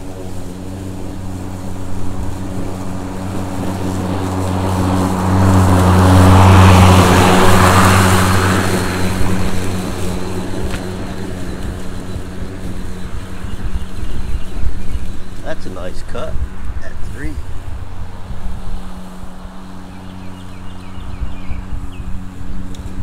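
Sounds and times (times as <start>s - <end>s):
lawn mower cutting grass: 0.0s - 23.0s.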